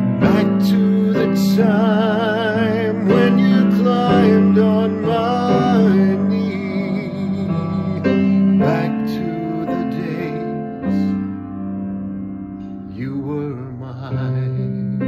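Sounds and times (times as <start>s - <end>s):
man singing with vibrato: 0.0s - 11.2s, 12.9s - 15.0s.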